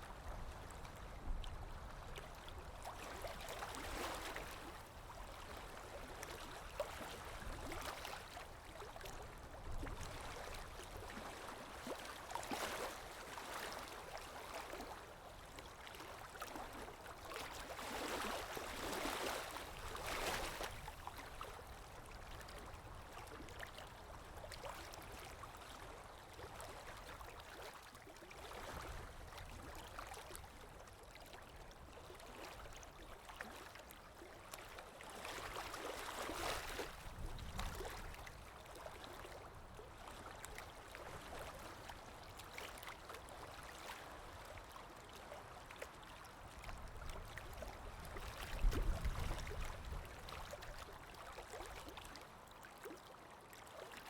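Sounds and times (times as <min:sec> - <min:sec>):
water lapping gently: 0:00.0 - 0:54.0.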